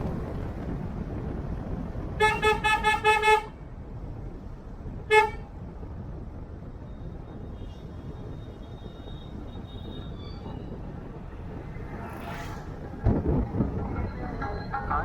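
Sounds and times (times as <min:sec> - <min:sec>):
road and engine noise: 0:00.0 - 0:15.0.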